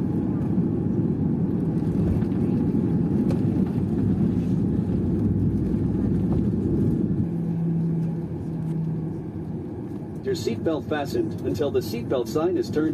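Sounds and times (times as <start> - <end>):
aircraft engines and wheels rumbling: 0.0 - 12.9
steady hum: 0.0 - 12.9.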